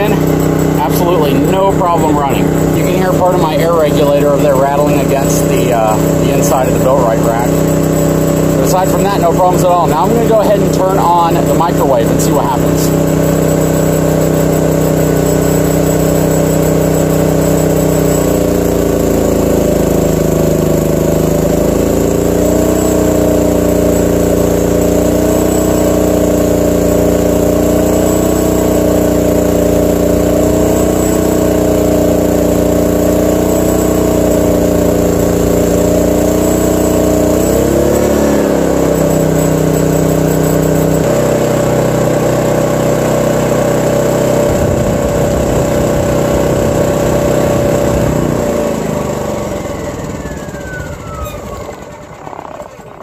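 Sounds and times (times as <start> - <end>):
generator engine running: 0.0 - 53.0.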